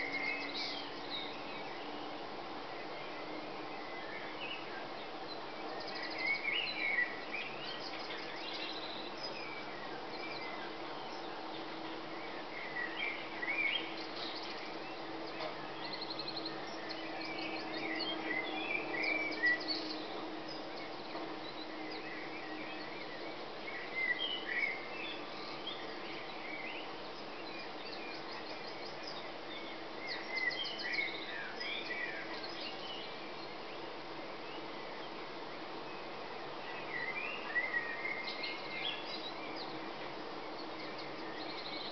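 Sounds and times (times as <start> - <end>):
songbirds singing: 0.0 - 41.9.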